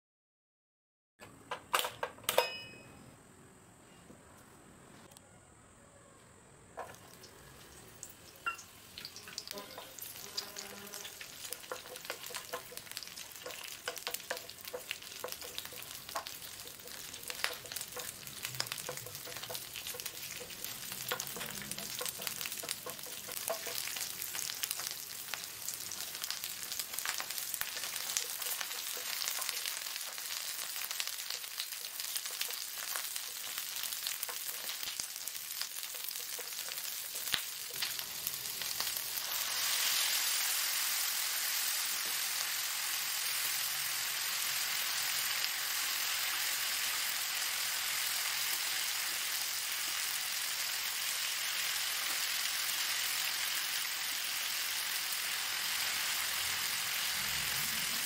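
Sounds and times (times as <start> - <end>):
vegetables sizzling in hot oil: 6.8 - 58.0.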